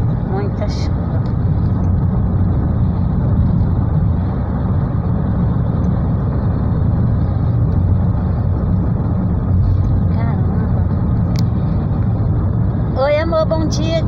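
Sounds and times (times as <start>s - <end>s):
car interior rumble on wet road: 0.0s - 14.0s.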